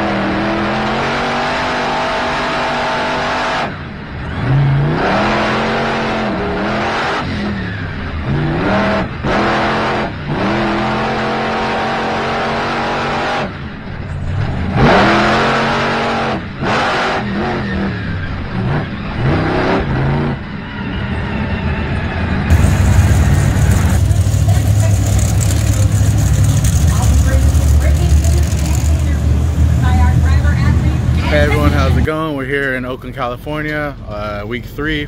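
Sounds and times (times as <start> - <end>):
monster truck engine revving: 0.0 - 32.3.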